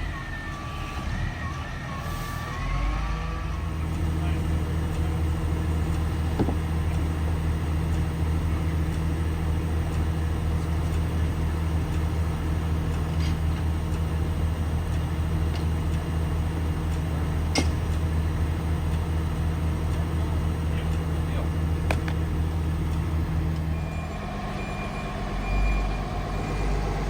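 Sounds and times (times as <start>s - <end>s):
large engine running steadily: 0.0s - 27.0s.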